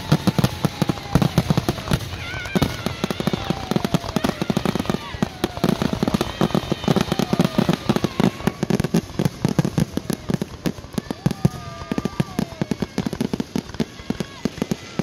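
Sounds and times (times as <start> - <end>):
fireworks popping and banging: 0.0 - 15.0.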